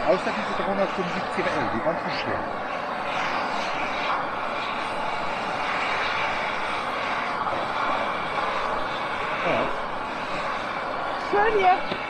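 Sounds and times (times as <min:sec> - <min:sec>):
gas stove burner hissing: 0:00.0 - 0:12.0.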